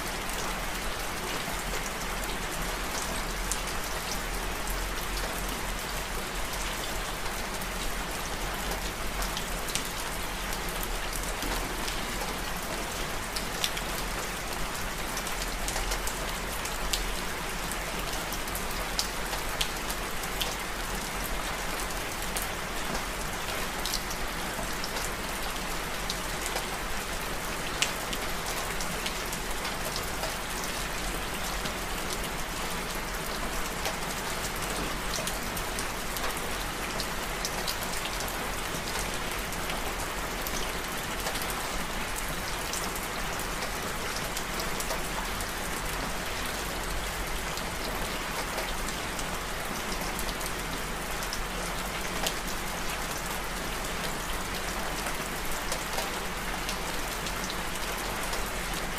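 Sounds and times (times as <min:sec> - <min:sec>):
steady rain with ticking drops: 0:00.0 - 0:58.9.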